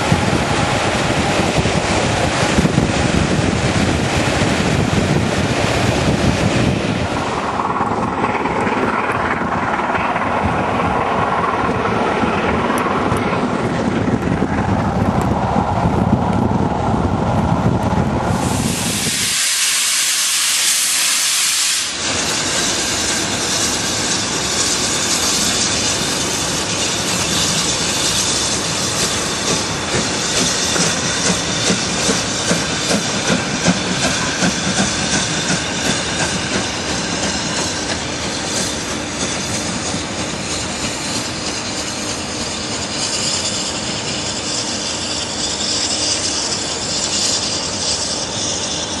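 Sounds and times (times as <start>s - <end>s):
loud steam hiss: 0.0s - 13.8s, 18.1s - 49.0s
steam train moving: 0.0s - 49.0s.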